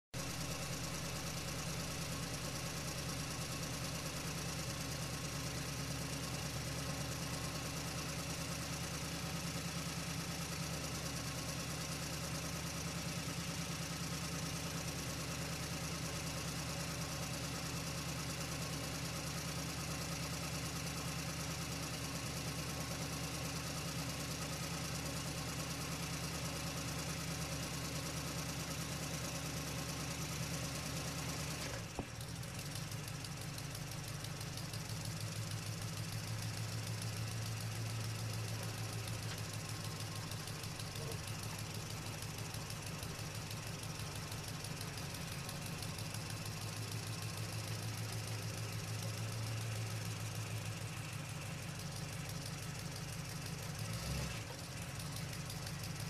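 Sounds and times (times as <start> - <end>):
truck engine running: 0.2 - 56.0.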